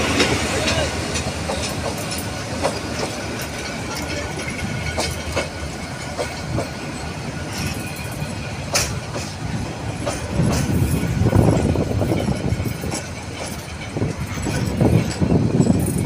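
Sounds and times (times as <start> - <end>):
train wheels rumbling on rails: 0.0 - 16.0
wheels clacking over rail joints: 0.0 - 16.0.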